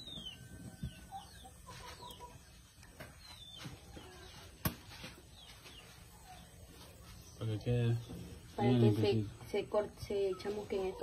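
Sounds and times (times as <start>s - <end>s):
chickens clucking: 0.0s - 9.3s.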